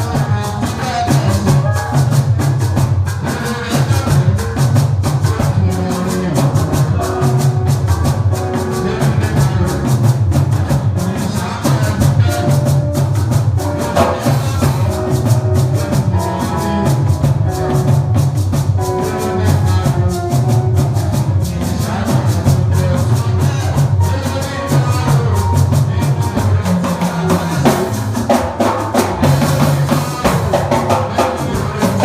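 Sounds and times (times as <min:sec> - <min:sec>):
live band playing: 0:00.0 - 0:32.0.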